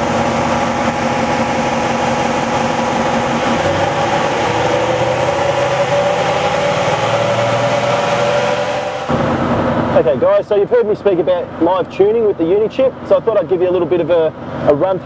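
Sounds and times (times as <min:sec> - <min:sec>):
diesel engine droning: 0:00.0 - 0:15.0
steady whine: 0:00.0 - 0:15.0.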